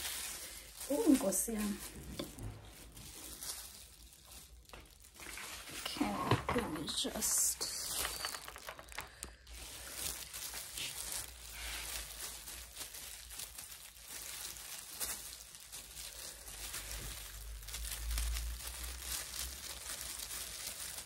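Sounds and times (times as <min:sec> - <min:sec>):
plastic gloves crinkling: 0:00.0 - 0:21.0.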